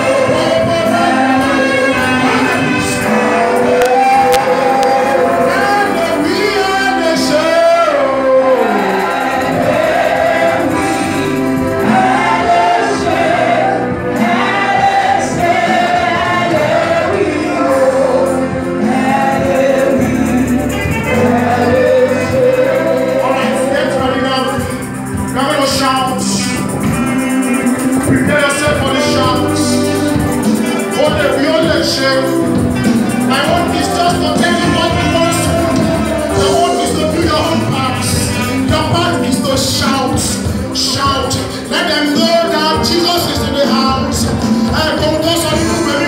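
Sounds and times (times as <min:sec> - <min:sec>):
group singing gospel: 0:00.0 - 0:46.0
musical accompaniment: 0:00.0 - 0:46.0.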